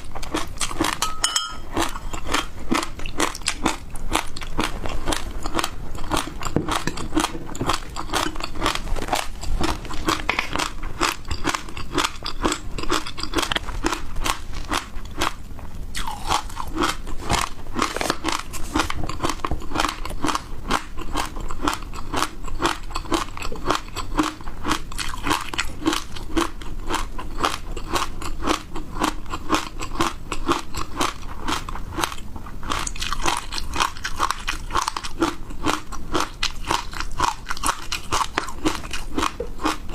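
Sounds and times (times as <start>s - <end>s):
chewing crunchy frozen food: 0.0s - 39.9s.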